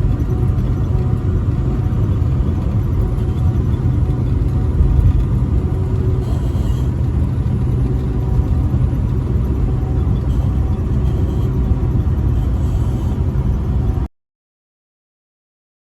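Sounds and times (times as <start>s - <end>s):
truck engine and road rumble: 0.0s - 14.1s.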